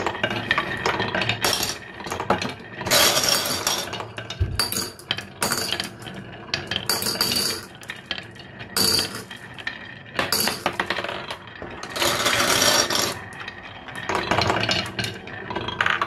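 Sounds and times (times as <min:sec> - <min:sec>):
marbles clinking together: 0:00.0 - 0:16.0
marbles rattling down wooden run: 0:00.0 - 0:16.0.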